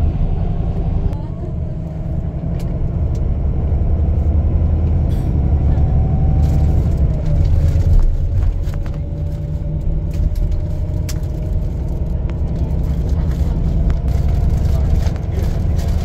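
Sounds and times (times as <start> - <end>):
engine and tyres rumbling: 0.0 - 16.0.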